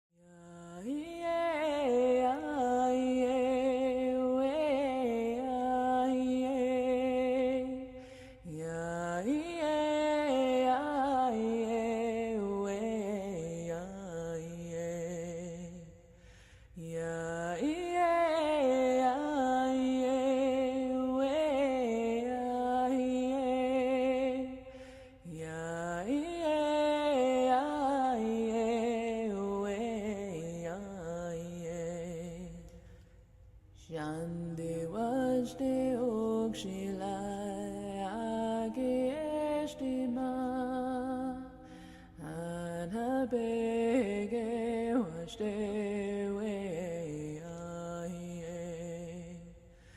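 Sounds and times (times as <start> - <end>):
slow meditative chant-like music: 0.2 - 33.0, 33.8 - 49.9.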